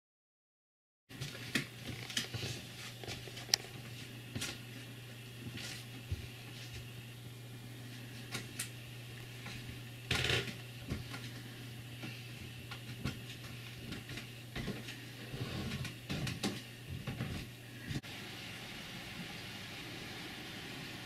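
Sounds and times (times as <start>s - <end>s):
steady low hum: 1.1s - 21.0s.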